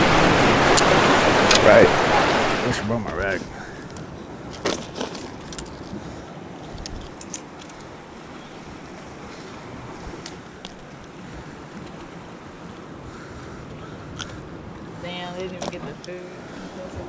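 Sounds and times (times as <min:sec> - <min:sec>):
surf: 0:00.0 - 0:17.0
wind: 0:00.0 - 0:17.0.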